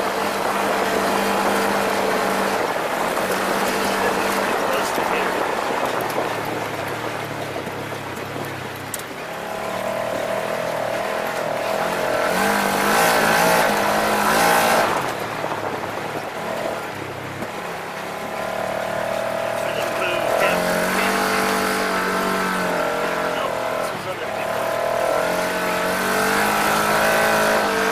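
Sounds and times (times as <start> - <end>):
off-road vehicle engine revving: 0.0 - 27.9.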